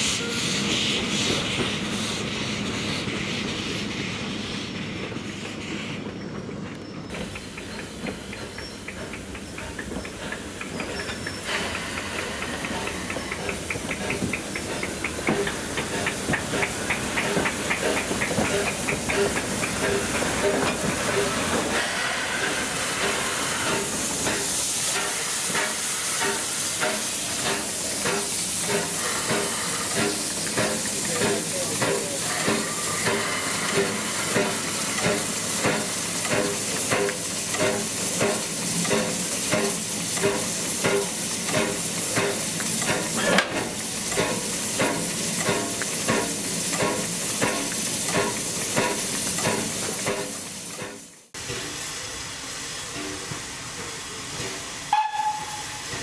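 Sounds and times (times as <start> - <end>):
steam hissing: 0.0 - 56.0
steam locomotive beats: 0.0 - 56.0.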